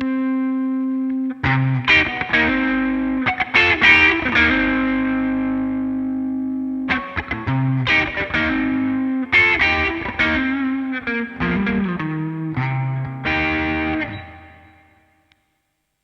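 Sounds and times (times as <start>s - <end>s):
overdriven electric guitar: 0.0s - 15.3s.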